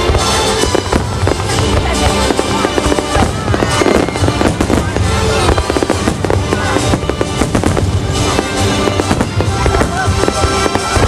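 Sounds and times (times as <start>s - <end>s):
fireworks bangs and crackling: 0.0s - 11.0s
music playing: 0.0s - 11.0s.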